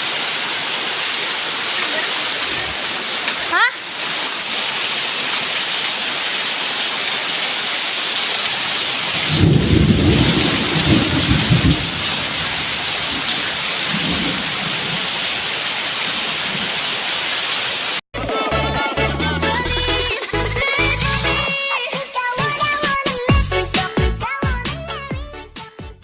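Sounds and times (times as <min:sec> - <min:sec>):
heavy rain pouring: 0:00.0 - 0:21.5.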